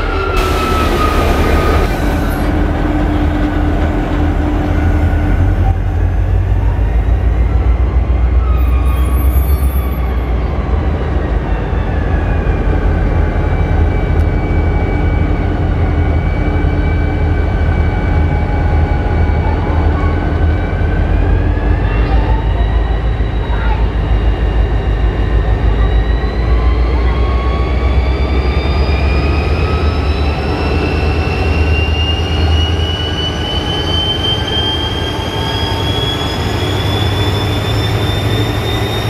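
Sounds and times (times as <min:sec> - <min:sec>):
diesel locomotive engine running: 0:00.0 - 0:39.0.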